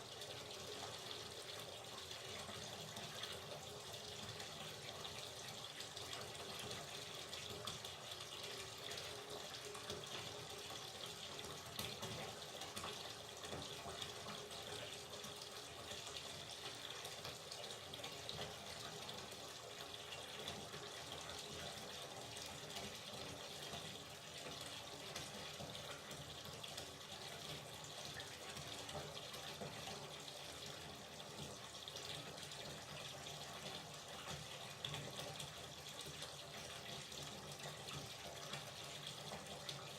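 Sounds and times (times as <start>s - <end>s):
tap water running into bathtub: 0.0s - 39.9s.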